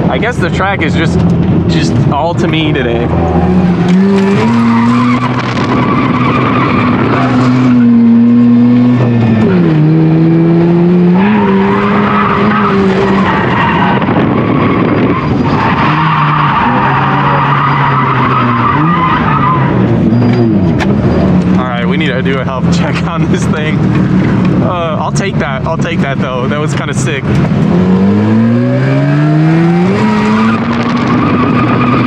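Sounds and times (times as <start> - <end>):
tires squealing: 2.0 - 32.0
rotary engine at high revs: 2.8 - 24.7, 25.4 - 32.0.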